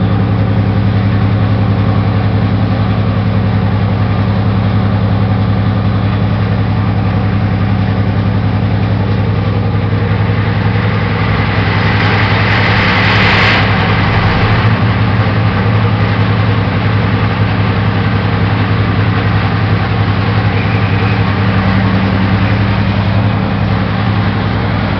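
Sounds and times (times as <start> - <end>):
diesel locomotive engines idling: 0.0 - 24.9.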